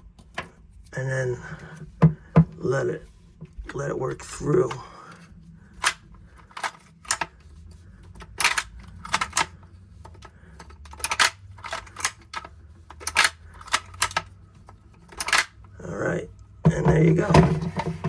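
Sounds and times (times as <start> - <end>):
plastic parts clicking: 3.5 - 18.0.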